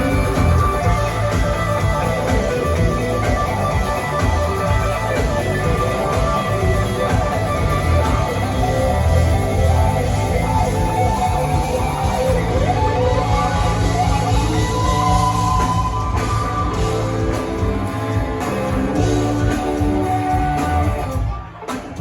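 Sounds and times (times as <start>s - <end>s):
lead guitar line: 0.0s - 22.0s
live rock band playing: 0.0s - 22.0s.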